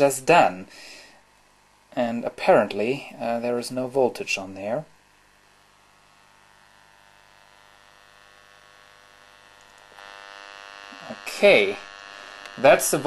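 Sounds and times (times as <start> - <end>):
faint mains hum from speaker: 0.0 - 13.0.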